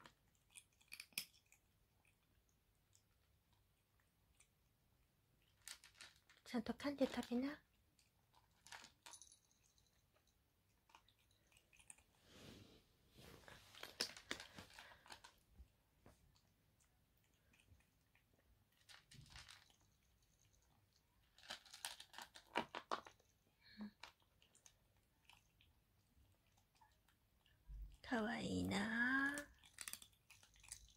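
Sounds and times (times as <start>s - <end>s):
kitten crunching dry kibble: 0.0s - 12.3s, 13.3s - 28.0s, 29.2s - 30.9s.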